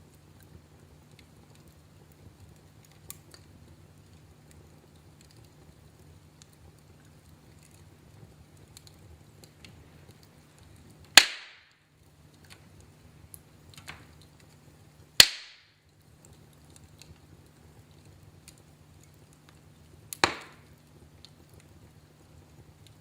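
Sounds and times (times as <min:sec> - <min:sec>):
wood fire crackling: 0:00.0 - 0:23.0
sharp pops from fire: 0:00.1 - 0:23.0.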